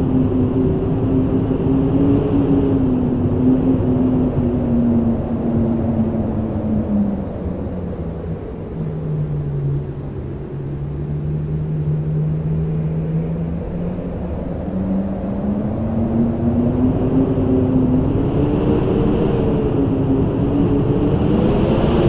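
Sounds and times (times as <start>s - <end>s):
wind howling: 0.0s - 22.0s.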